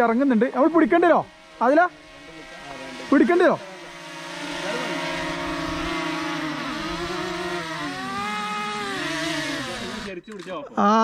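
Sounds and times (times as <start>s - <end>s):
drone propellers whining: 0.0s - 10.1s.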